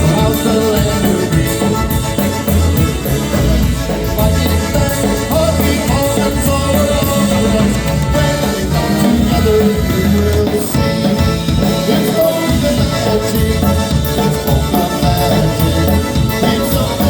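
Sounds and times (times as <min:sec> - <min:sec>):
bass and drum beat: 0:00.0 - 0:17.0.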